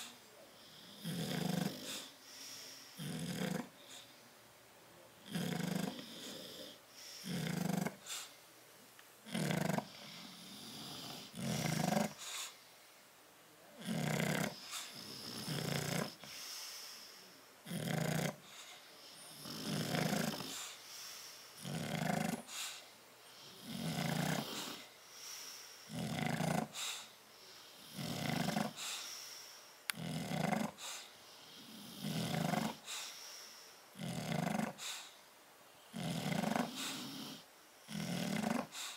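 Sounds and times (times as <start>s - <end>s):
dog snoring: 0.0s - 4.1s, 5.2s - 8.3s, 9.2s - 12.6s, 13.8s - 20.8s, 21.6s - 27.1s, 27.7s - 29.2s, 29.9s - 35.2s, 35.9s - 38.9s.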